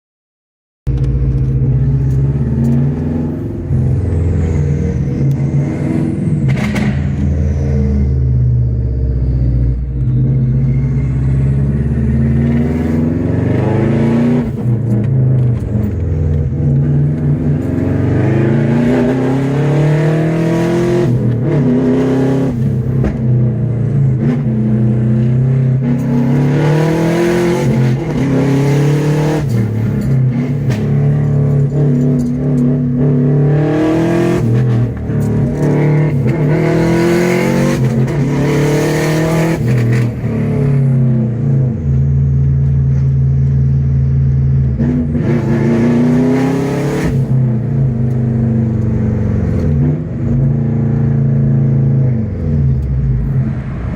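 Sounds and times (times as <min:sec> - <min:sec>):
car engine revving: 0:00.9 - 0:53.9.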